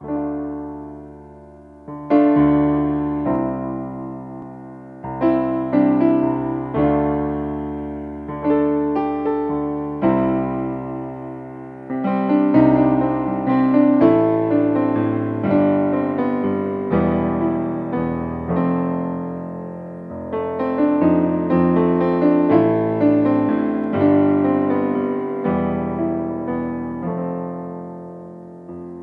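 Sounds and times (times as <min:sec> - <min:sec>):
slow solo piano chords: 0:00.0 - 0:29.0.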